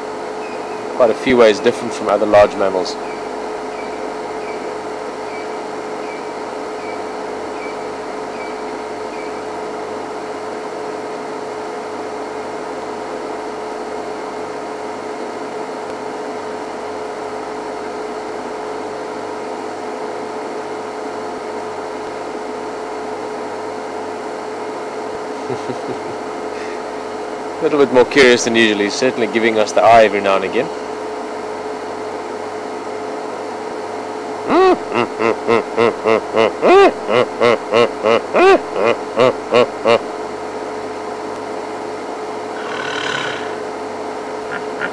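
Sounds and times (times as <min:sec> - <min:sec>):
mechanical hum: 0:00.0 - 0:44.9.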